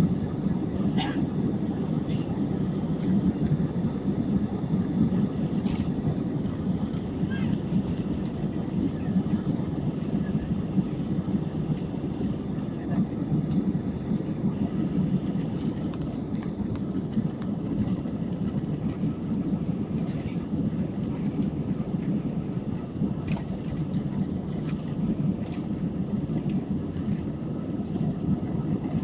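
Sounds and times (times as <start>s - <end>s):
jet engine rumble in cabin: 0.0s - 29.0s.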